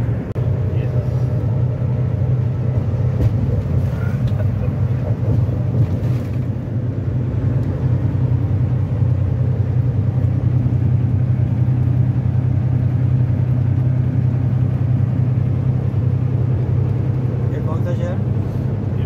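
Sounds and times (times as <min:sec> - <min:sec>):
diesel engine drone: 0:00.0 - 0:19.0
road noise: 0:00.0 - 0:19.0.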